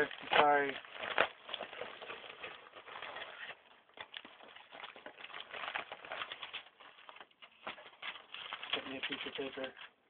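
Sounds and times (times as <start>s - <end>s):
packaging rustling and crackling: 0.0s - 10.0s.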